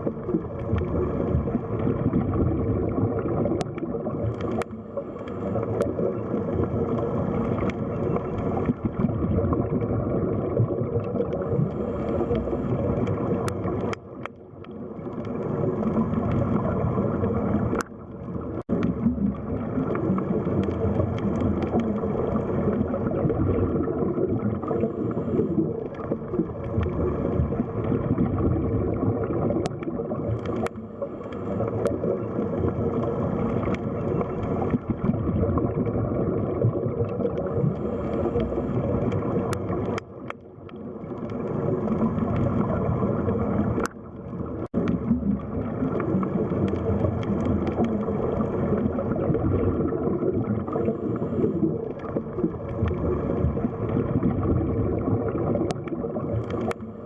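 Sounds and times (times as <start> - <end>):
faint underwater clicks: 0.0 - 57.0
muffled underwater water noise: 0.0 - 57.0.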